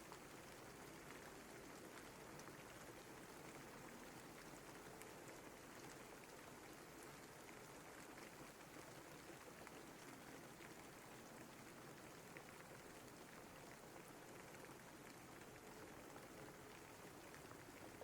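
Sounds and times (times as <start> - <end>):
raindrops ticking: 0.0 - 7.6, 8.2 - 18.0
faint steady rain: 0.0 - 18.0.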